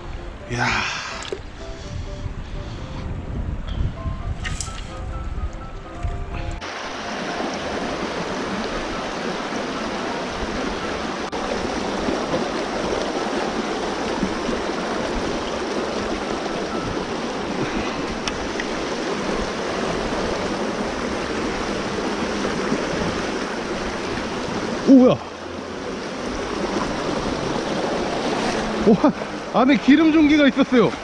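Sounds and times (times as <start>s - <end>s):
stream rushing over stones: 0.5s - 1.6s, 6.6s - 31.0s.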